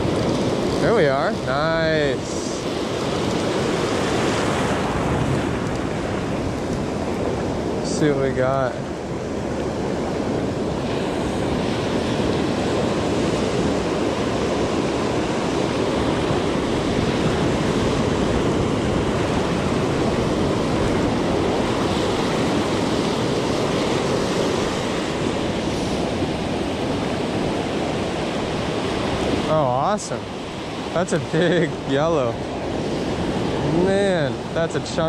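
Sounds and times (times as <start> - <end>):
ocean surf breaking: 0.0 - 35.0
wind on microphone: 0.0 - 35.0.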